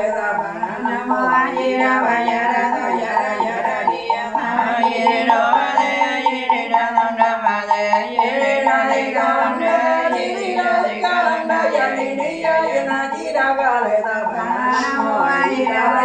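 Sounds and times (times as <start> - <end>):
steady tapping beat: 0.0 - 16.0
women chanting: 0.0 - 16.0.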